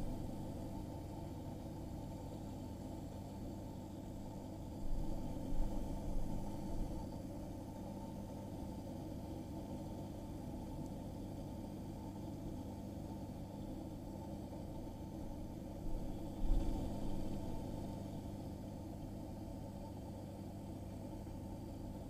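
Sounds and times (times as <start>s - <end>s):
aquarium pump humming: 0.0s - 22.0s.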